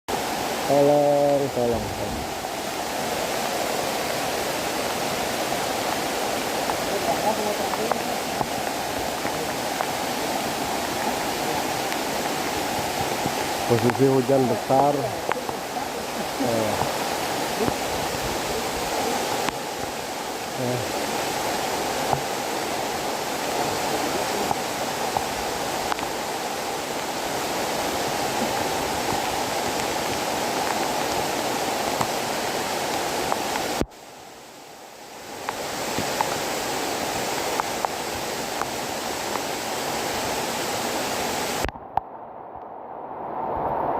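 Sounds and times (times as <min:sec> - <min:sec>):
rushing falling water: 0:00.1 - 0:43.9.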